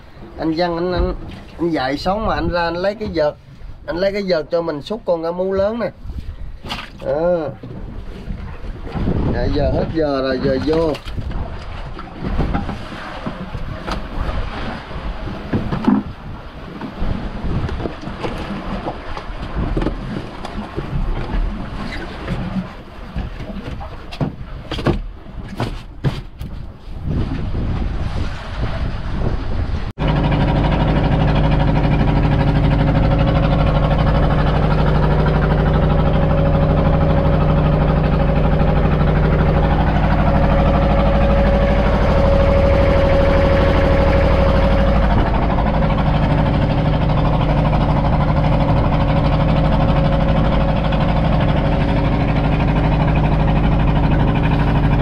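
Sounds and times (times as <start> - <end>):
boat engine running: 0.0 - 55.0
sea noise: 0.0 - 55.0
wind buffeting microphone: 5.4 - 24.6, 25.3 - 55.0.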